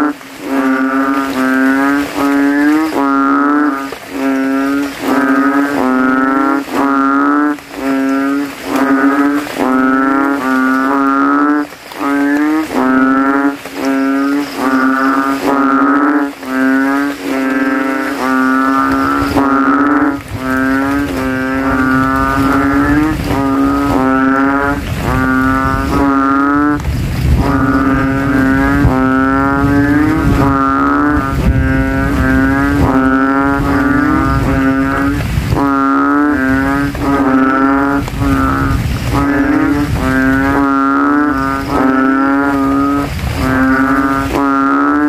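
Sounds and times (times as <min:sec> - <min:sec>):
frogs calling: 0:00.0 - 0:45.0.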